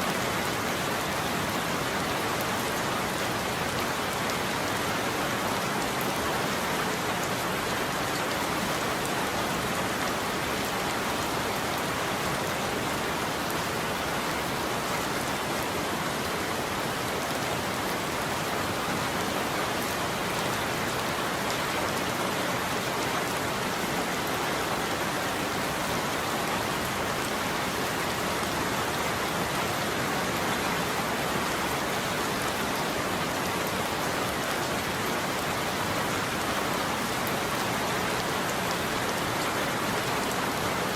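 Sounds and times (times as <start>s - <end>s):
rain on a roof: 0.0s - 40.9s.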